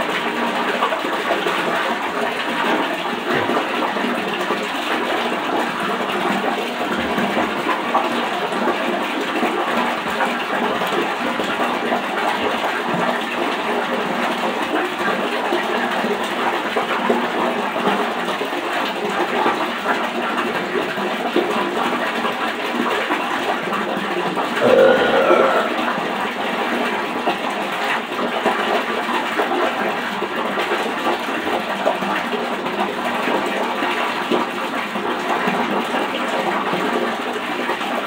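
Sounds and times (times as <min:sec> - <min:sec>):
water running from sink tap: 0:00.0 - 0:38.0.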